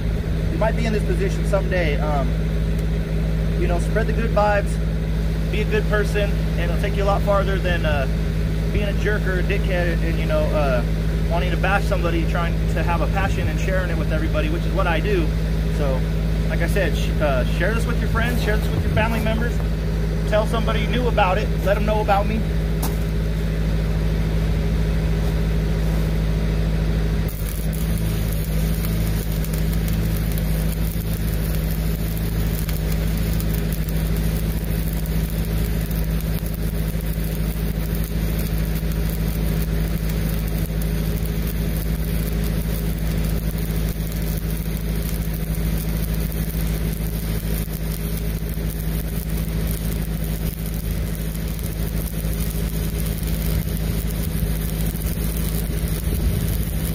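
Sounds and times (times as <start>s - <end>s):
diesel welder engine running: 0.0s - 56.9s
welding arc crackling: 0.0s - 56.9s.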